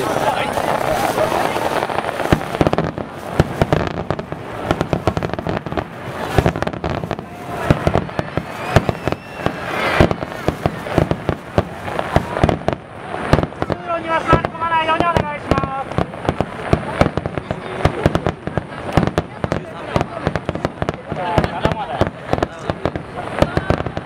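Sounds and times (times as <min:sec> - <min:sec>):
firework shells bursting: 0:00.0 - 0:24.0.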